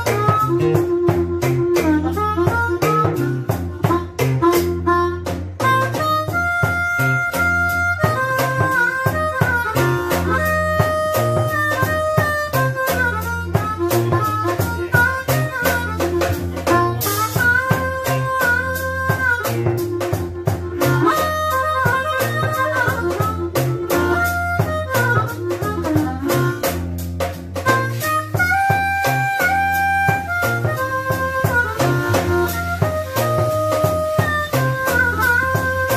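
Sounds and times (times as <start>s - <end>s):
amplified harmonica: 0.0s - 35.9s
bass line: 0.0s - 35.9s
drum beat: 0.0s - 35.9s.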